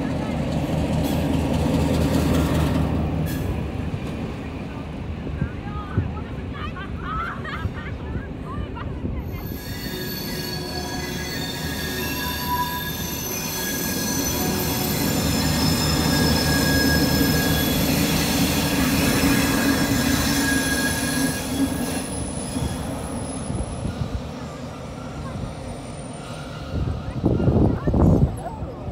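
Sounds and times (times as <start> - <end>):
low rumble of train: 0.0 - 28.9
train wheels squealing on rails: 0.4 - 3.8, 9.0 - 28.9.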